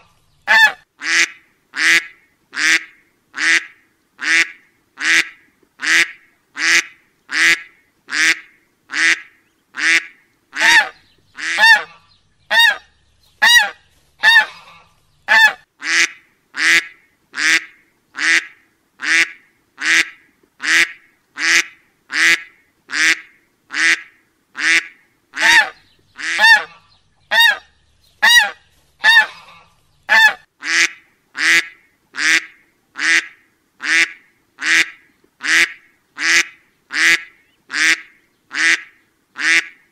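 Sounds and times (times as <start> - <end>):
duck quacking: 0.0 - 12.8, 13.4 - 39.9.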